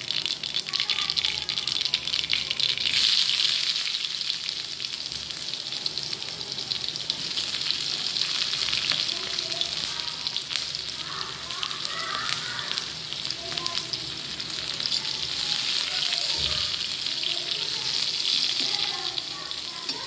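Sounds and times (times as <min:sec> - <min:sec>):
seeds sizzling and popping in oil: 0:00.0 - 0:20.0.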